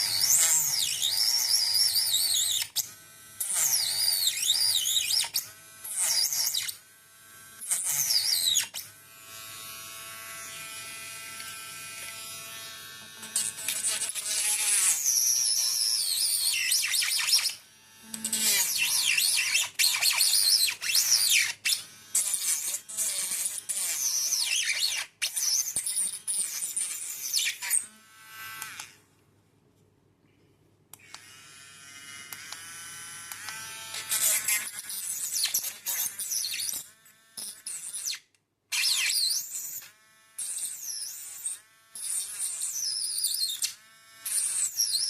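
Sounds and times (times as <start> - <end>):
mini grinder cutting: 0.0 - 29.0, 31.0 - 38.2, 38.8 - 45.0.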